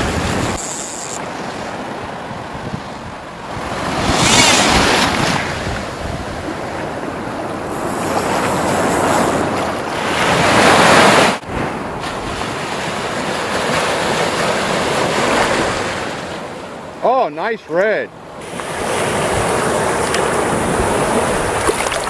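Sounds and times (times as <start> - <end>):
ocean surf breaking: 0.0 - 22.0
wind buffeting microphone: 1.2 - 15.8, 18.7 - 22.0.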